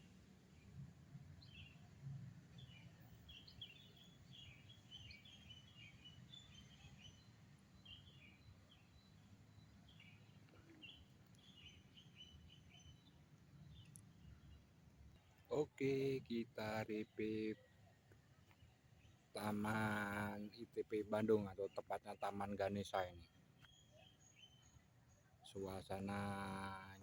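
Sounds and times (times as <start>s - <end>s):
small birds chirping: 1.4s - 27.0s.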